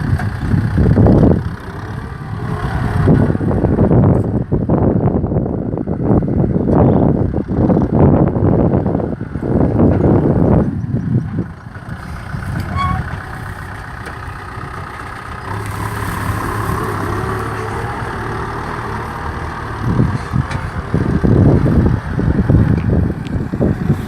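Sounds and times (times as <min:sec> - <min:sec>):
tractor diesel engine running: 0:00.0 - 0:24.0
wind buffeting microphone: 0:00.0 - 0:24.0.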